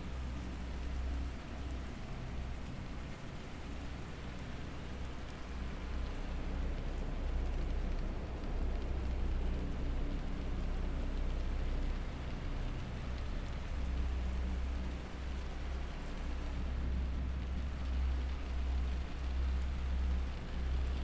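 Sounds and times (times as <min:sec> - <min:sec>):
low steady humming tones: 0:00.0 - 0:21.0
rain: 0:00.0 - 0:21.0.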